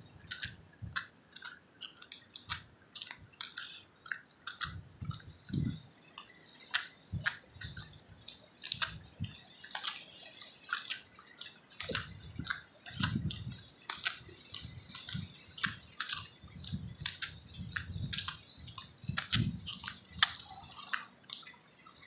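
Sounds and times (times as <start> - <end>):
footsteps on wet pavement: 0.2 - 22.0.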